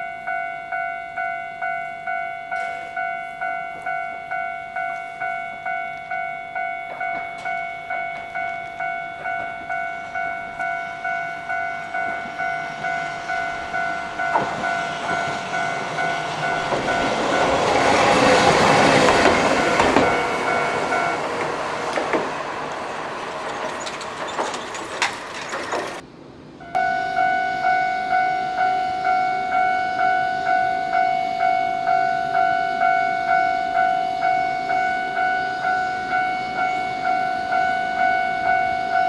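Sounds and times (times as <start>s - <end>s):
level crossing bell dinging: 0.0s - 22.3s, 26.6s - 39.0s
tram rumble: 0.0s - 39.0s
wheels clacking on rails: 0.0s - 39.0s.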